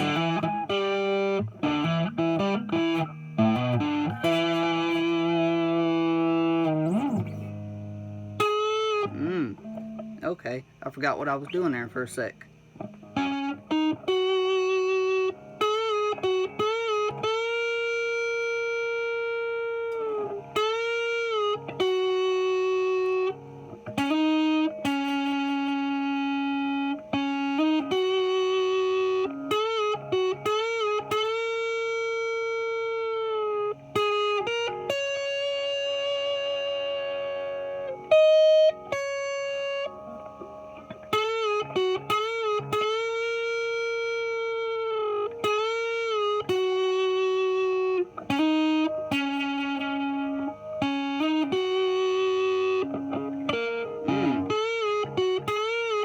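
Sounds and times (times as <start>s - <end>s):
distorted electric guitar lead: 0.0s - 56.0s.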